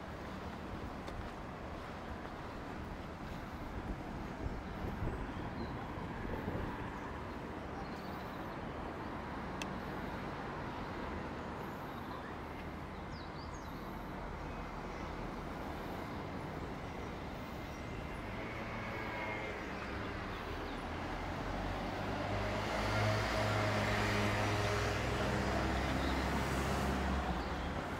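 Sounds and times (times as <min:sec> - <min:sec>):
traffic hum: 0:00.0 - 0:27.9.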